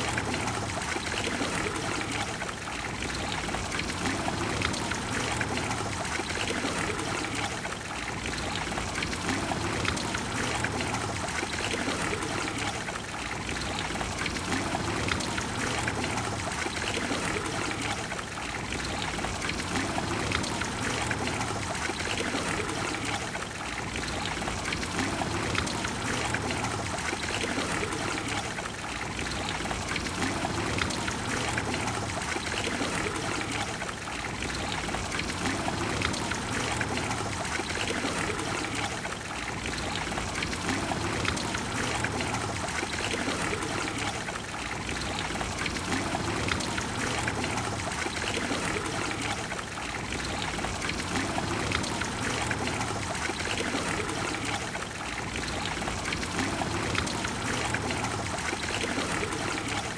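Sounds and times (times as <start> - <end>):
fountain water flowing and splashing: 0.0 - 59.9.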